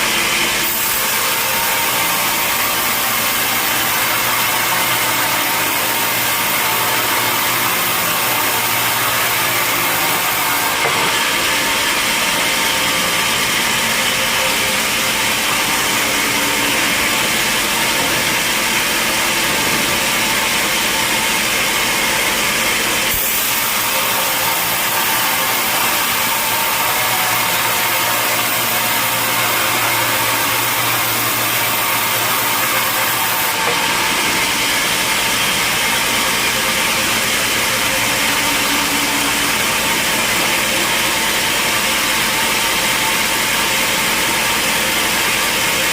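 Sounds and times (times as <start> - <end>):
saw cutting through log: 0.0 - 45.9.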